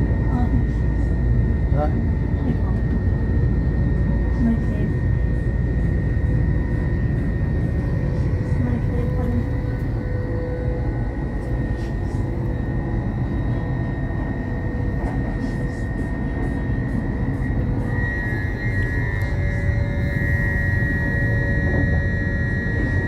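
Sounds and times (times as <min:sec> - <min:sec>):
constant high whine: 0:00.0 - 0:23.0
train rumble inside carriage: 0:00.0 - 0:23.0.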